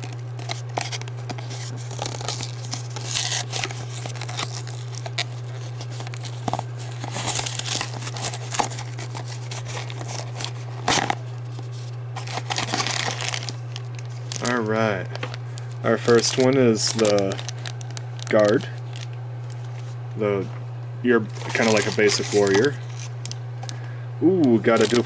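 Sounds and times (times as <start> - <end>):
packaging tearing and crinkling: 0.0 - 19.9, 21.3 - 23.8, 24.4 - 25.0
low hum: 0.0 - 24.7.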